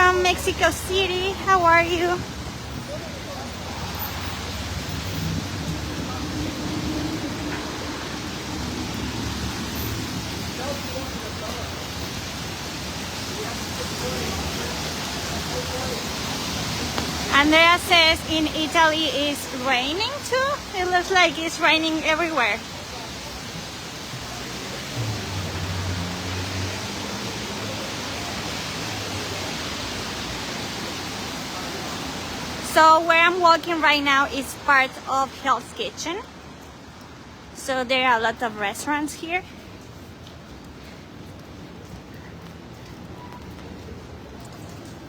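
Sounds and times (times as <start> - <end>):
low hum of vehicle engines: 0.0 - 45.0
rain hiss: 0.0 - 45.0
traffic on wet street: 0.0 - 45.0.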